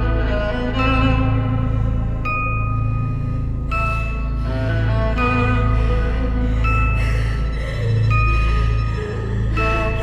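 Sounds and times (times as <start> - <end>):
low sustained drone: 0.0 - 10.0.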